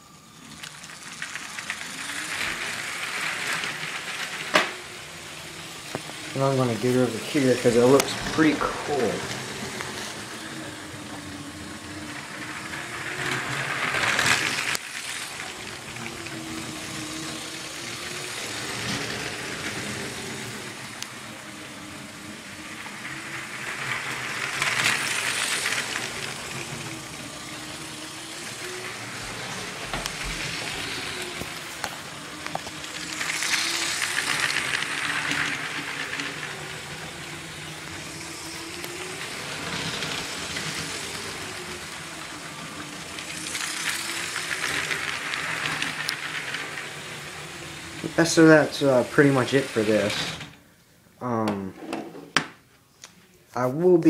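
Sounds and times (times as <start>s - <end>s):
electric motor hum: 0.0s - 52.0s
wheels rattling on track: 0.4s - 21.1s, 22.1s - 50.5s.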